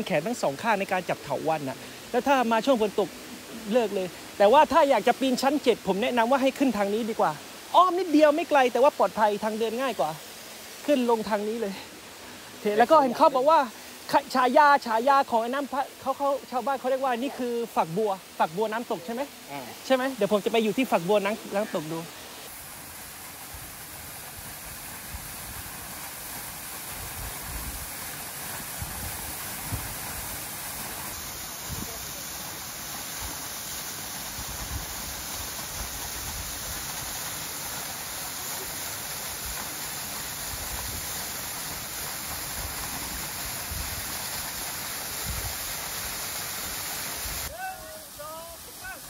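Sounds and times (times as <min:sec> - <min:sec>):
waterfall pouring onto rocks: 0:00.0 - 0:49.0.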